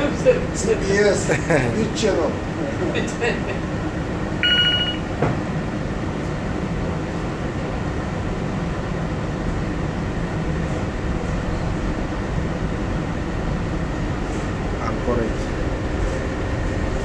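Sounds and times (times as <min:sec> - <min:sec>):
ship engine machinery rumble: 0:00.0 - 0:17.0.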